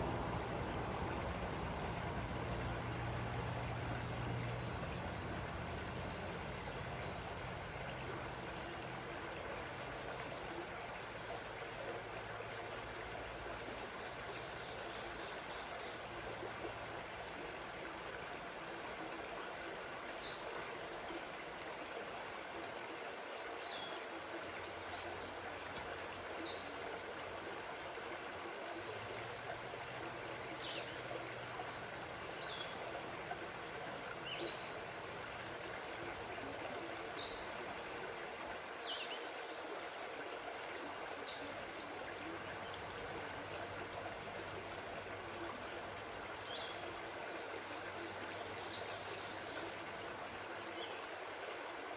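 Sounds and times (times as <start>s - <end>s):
creek flowing over stones: 0.0s - 51.9s.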